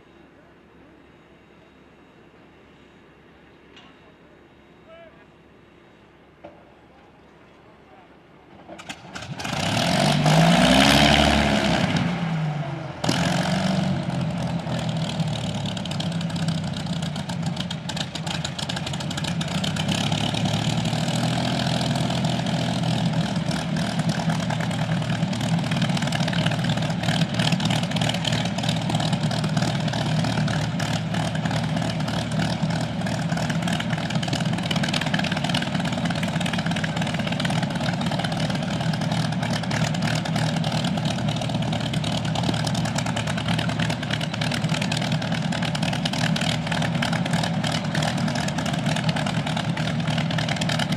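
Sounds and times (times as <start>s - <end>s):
aircraft engine starting and idling: 6.5s - 50.9s.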